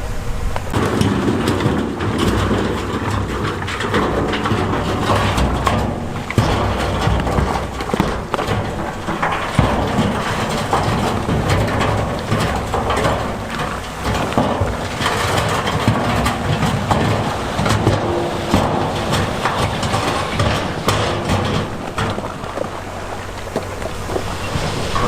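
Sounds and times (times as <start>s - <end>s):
diesel engine running: 0.0s - 25.0s
stones clattering: 0.7s - 25.0s.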